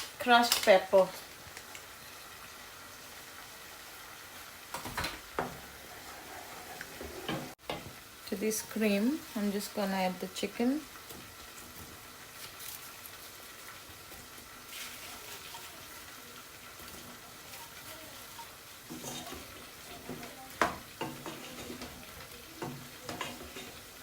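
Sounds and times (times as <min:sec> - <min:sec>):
chicken sizzling in a pan: 0:00.0 - 0:24.0.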